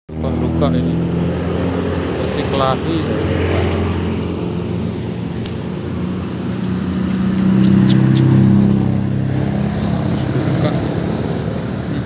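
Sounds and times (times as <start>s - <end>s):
vehicle engine passing by: 0.1s - 12.0s.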